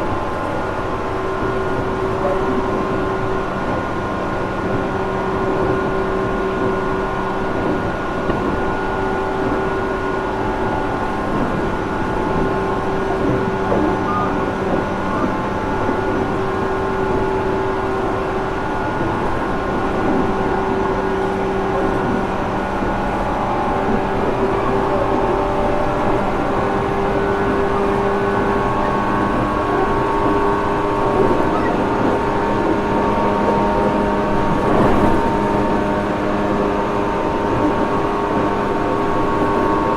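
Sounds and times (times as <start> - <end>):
rail and wheel noise: 0.0 - 39.9.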